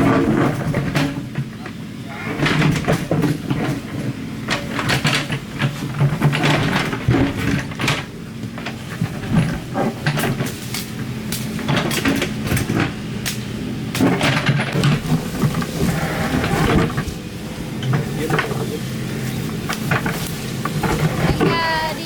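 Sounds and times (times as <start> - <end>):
excavator digging knocks and scrapes: 0.0 - 21.6
excavator engine humming: 0.0 - 22.0.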